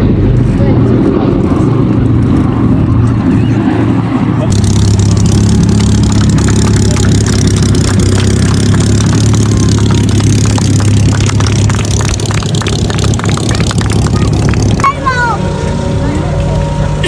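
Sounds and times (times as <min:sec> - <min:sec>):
radial engines droning: 0:00.0 - 0:17.0.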